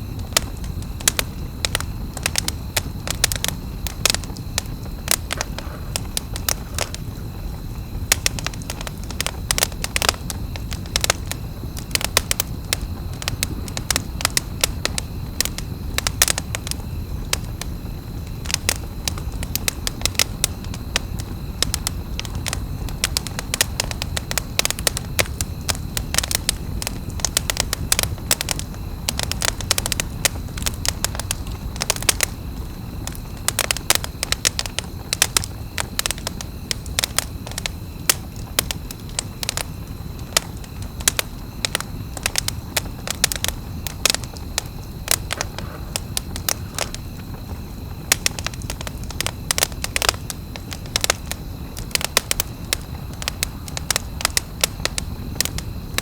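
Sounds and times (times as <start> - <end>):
campfire pops and snaps: 0.0 - 56.0
low noise of burning fire: 0.0 - 56.0.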